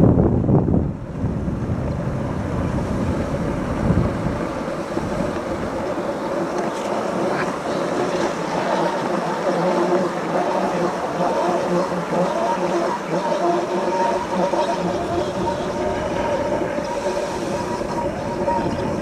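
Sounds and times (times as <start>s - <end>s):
wind rumbling on microphone: 0.0s - 19.0s
sled runners scraping over snow: 1.8s - 19.0s.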